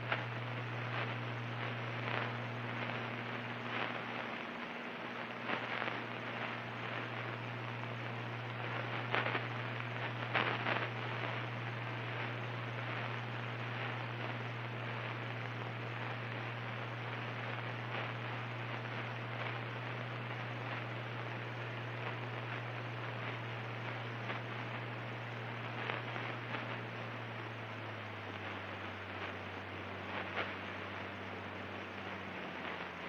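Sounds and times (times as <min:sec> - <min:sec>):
constant hiss: 0:00.0 - 0:33.0
faint crackles: 0:00.0 - 0:33.0.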